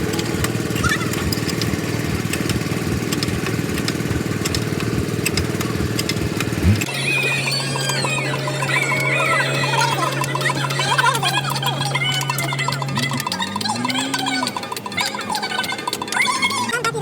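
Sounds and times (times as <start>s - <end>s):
chirping: 0.0s - 17.0s
engine running with rapid pulse: 0.0s - 17.0s
steady low hum: 0.0s - 17.0s.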